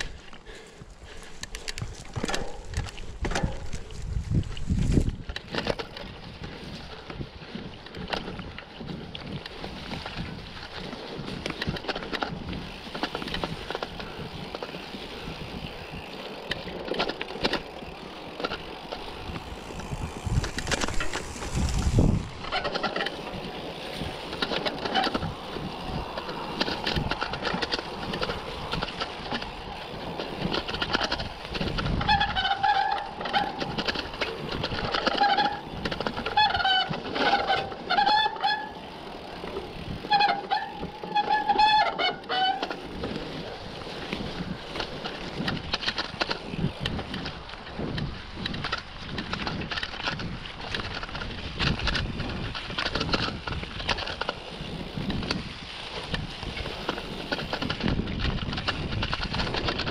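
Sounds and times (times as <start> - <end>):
bike knocking and rattling: 0.0 - 59.9
bike tyre and wind noise: 0.0 - 59.9.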